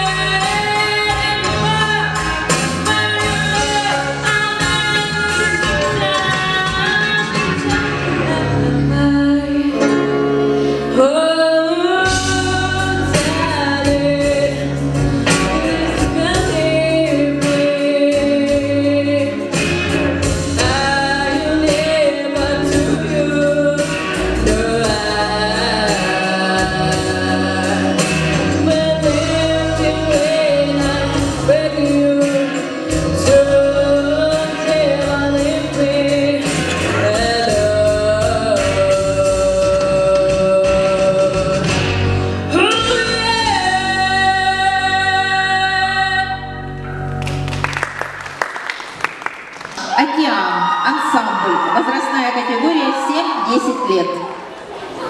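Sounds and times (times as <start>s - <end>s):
person singing a song: 0.0s - 10.2s, 10.8s - 19.7s, 20.6s - 46.7s.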